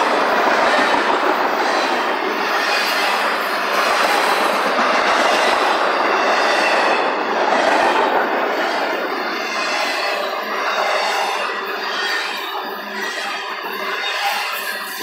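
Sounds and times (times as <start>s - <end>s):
steel wheels running on rails: 0.0s - 15.0s.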